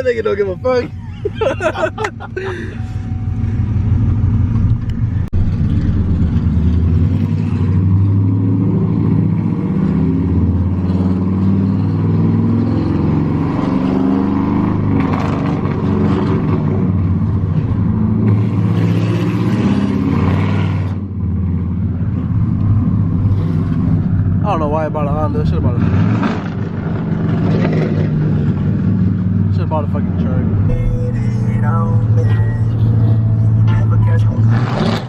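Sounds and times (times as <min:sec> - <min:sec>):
vehicle engine rumbling: 0:00.0 - 0:35.0.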